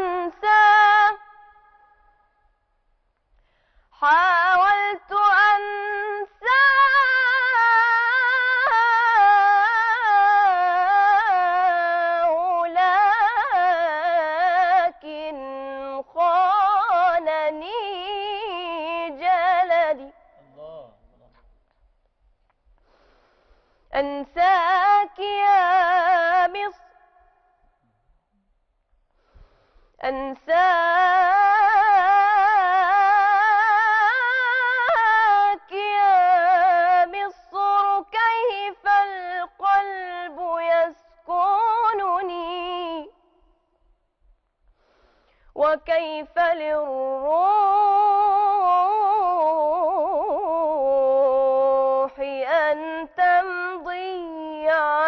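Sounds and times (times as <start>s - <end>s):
woman singing unaccompanied: 0.0s - 2.0s, 3.9s - 20.3s, 23.9s - 27.3s, 30.0s - 43.6s, 45.6s - 55.0s.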